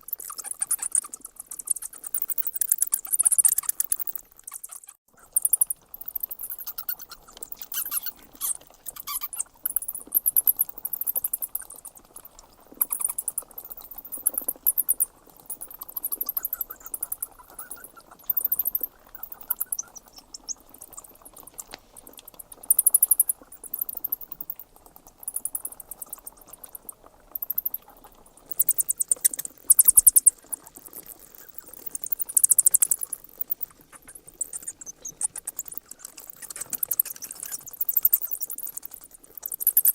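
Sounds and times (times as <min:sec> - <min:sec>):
bats squeaking: 0:00.0 - 0:39.9.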